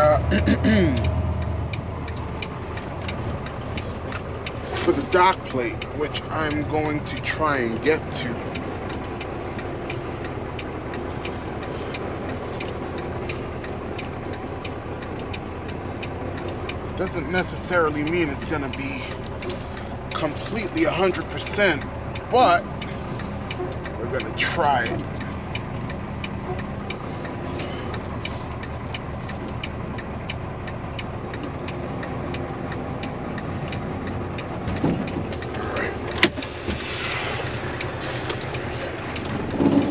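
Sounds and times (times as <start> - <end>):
light ticking: 0.0 - 39.9
truck diesel engine running: 0.0 - 39.9.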